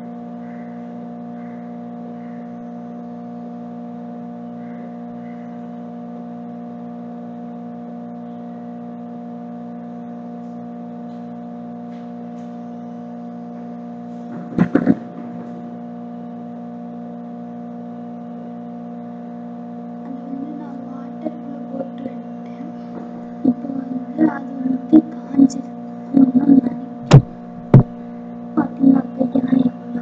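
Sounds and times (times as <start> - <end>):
steady hum of fixed tones: 0.0 - 30.0.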